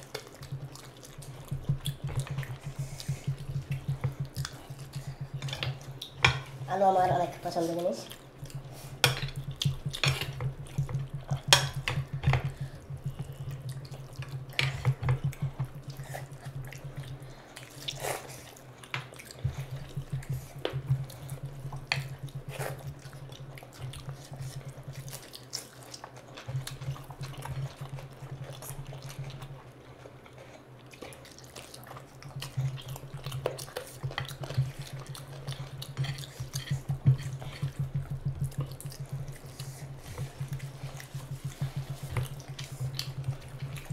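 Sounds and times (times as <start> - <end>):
hands squelching in wet food: 0.0 - 43.9
open-mouthed chewing: 0.0 - 43.9.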